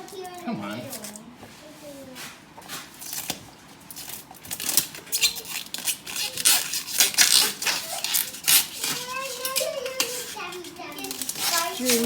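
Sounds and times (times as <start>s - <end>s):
packaging rustling and crinkling: 2.1s - 12.0s.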